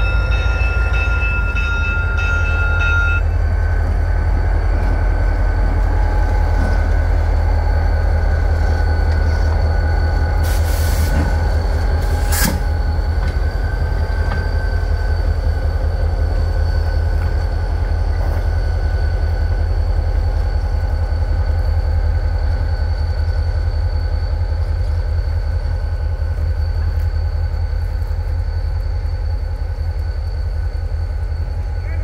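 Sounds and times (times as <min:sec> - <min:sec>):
locomotive engine rumbling: 0:00.0 - 0:32.0.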